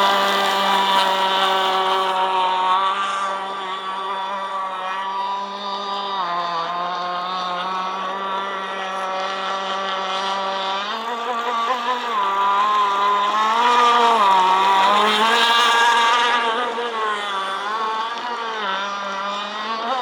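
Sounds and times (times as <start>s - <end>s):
model boat engine revving: 0.0s - 20.0s.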